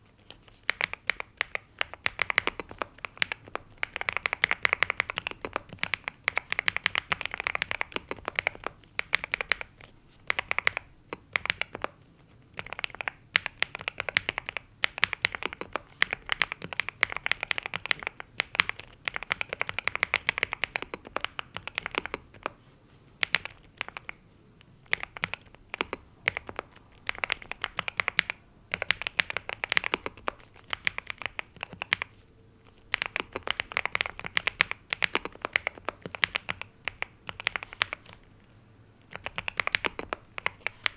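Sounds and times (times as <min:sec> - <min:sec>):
mechanical keyboard typing: 0:00.0 - 0:12.0, 0:12.6 - 0:22.6, 0:23.2 - 0:24.2, 0:24.8 - 0:38.2, 0:39.0 - 0:40.9.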